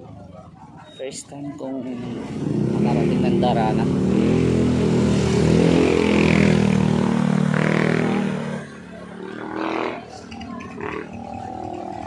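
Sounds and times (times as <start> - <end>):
motorcycle engine passing: 1.9 - 12.0.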